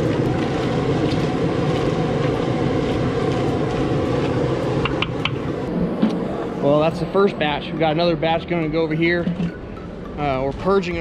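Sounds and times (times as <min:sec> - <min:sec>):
propane burner roaring: 0:00.0 - 0:11.0.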